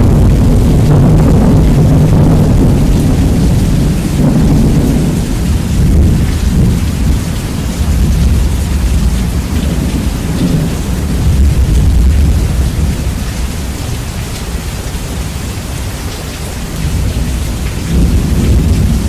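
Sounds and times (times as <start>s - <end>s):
deep thunder rumble: 0.0s - 19.0s
rain falling: 0.0s - 19.0s.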